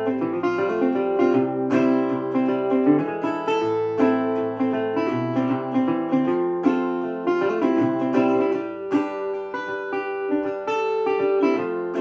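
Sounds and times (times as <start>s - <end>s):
resonator guitar plucked: 0.0s - 12.0s.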